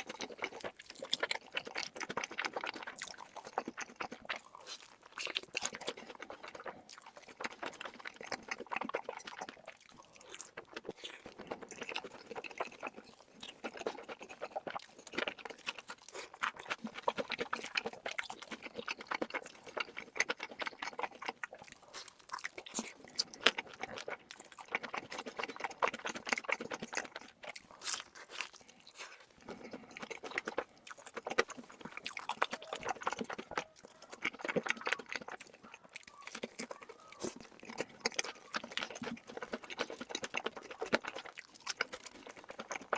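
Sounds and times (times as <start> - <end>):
person chewing and crunching food: 0.0 - 42.9.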